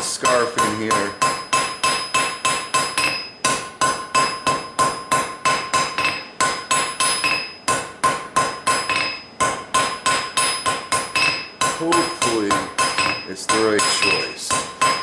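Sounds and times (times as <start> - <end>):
hammer striking steel on anvil: 0.0 - 15.0.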